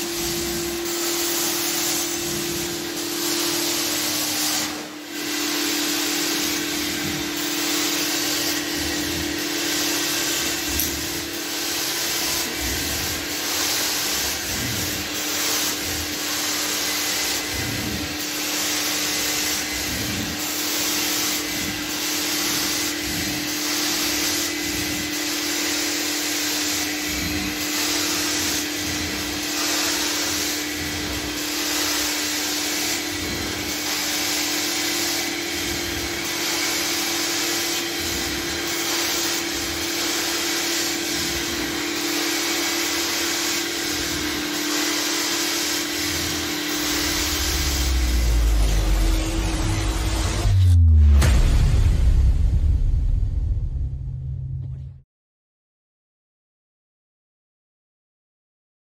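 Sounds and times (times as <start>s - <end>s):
carpet cleaning machine humming: 0.0s - 50.6s
suction hiss of floor wand: 0.0s - 50.6s.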